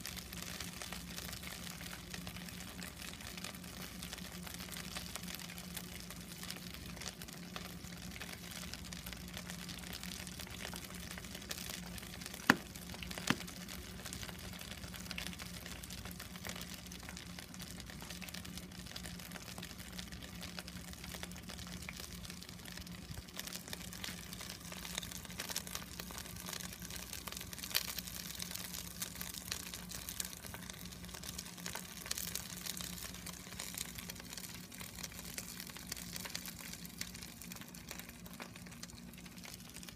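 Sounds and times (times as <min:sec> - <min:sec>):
chicken deep-frying in hot oil: 0:00.0 - 0:39.9.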